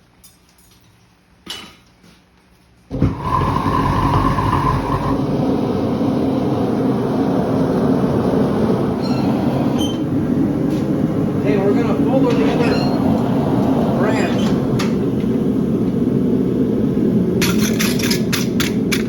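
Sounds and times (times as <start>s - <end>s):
forge fire roaring: 2.9s - 19.0s.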